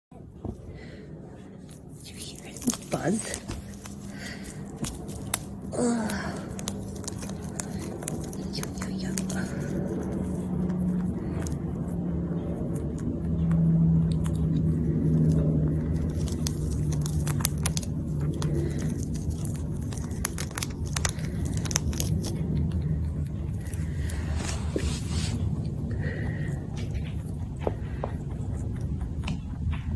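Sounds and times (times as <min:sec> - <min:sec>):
steady low hum: 0:00.1 - 0:29.9
animal munching food: 0:01.4 - 0:29.9.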